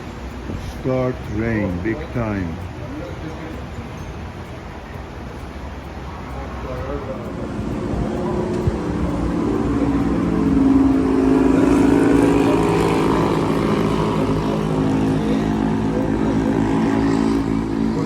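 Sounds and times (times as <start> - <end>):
motor drone with pitched hum: 0.0 - 18.0.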